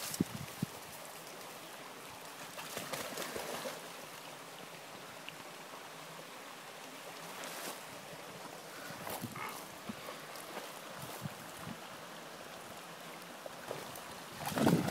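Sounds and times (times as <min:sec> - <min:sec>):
creek running: 0:00.0 - 0:14.9.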